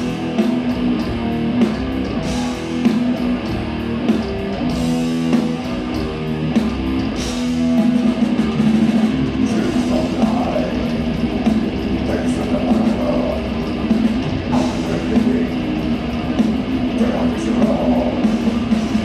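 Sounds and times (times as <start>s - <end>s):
distorted electric guitar riffing: 0.0s - 19.0s
drum kit with cymbal hits: 0.0s - 19.0s.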